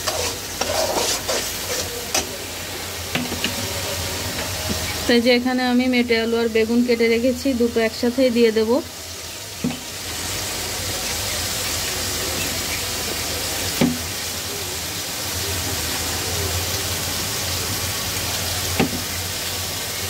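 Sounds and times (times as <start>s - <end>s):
curry sizzling in a pot: 0.0s - 20.0s.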